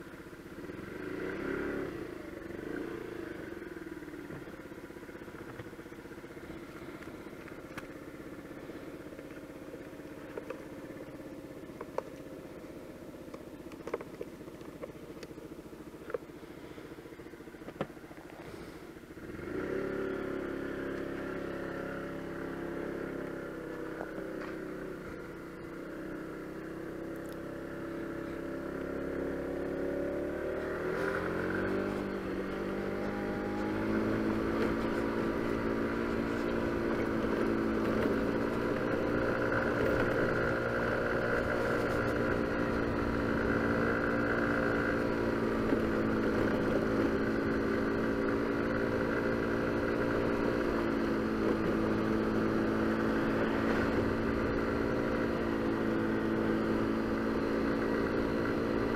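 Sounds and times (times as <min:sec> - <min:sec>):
scooter engine accelerating: 0:00.0 - 0:58.9.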